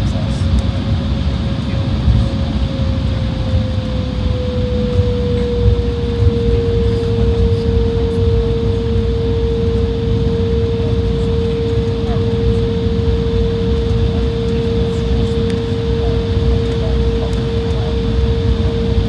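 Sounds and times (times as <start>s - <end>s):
jet engines whining: 0.0s - 19.0s.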